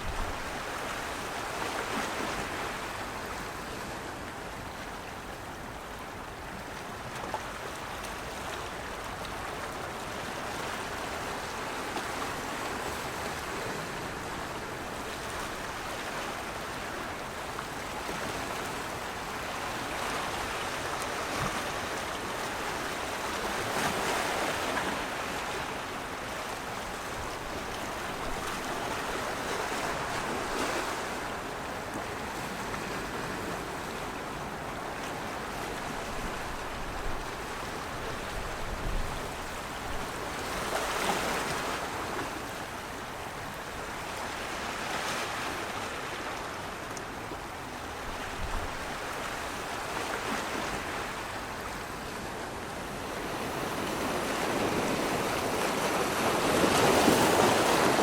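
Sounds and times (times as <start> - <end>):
rush of moving water: 0.0 - 58.0.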